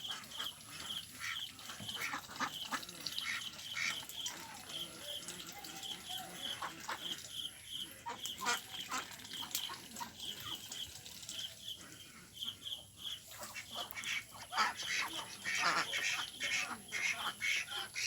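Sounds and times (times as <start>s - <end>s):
ducks calling: 0.0s - 10.7s, 11.3s - 18.0s.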